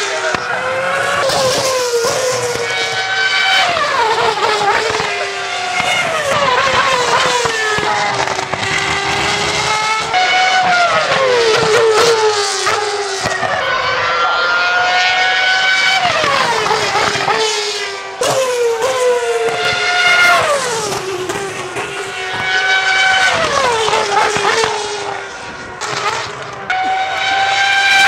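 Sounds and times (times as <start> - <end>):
racing cars passing by: 0.0 - 28.0.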